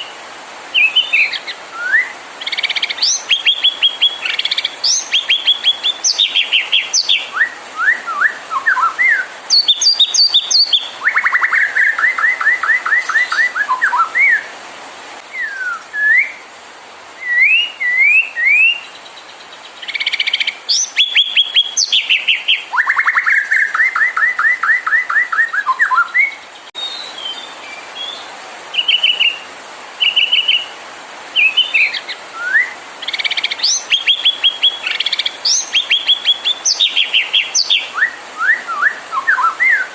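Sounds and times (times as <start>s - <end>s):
bird singing varied song: 0.0s - 14.5s, 15.2s - 16.4s, 17.2s - 30.8s, 31.4s - 39.9s.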